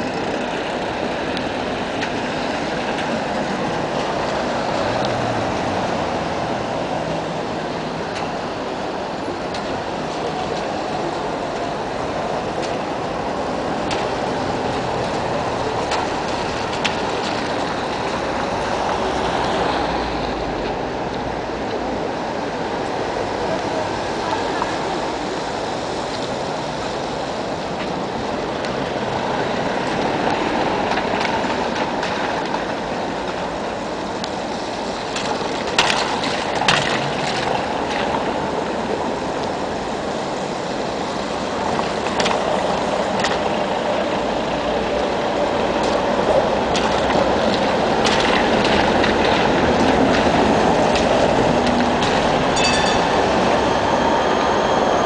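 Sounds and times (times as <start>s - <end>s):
car tyres hissing through water: 0.0s - 55.0s
electric tram approaching: 0.0s - 55.0s
wheel-on-rail tones: 0.0s - 55.0s.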